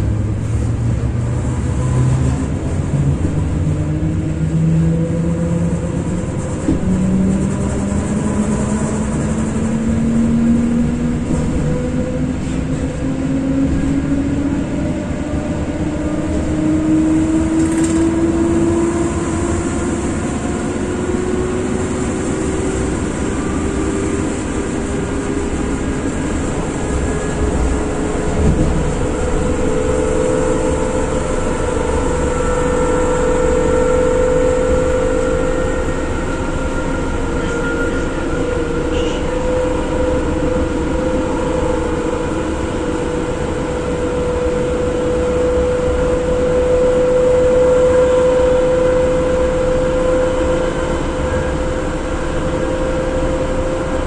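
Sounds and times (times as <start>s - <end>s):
electric train motor whine: 0.6s - 54.0s.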